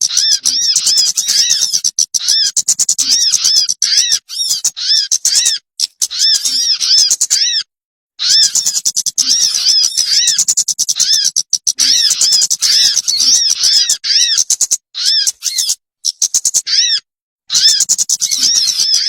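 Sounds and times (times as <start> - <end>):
bird chirping call: 0.0 - 19.0
clicky bird chatter: 0.0 - 19.0.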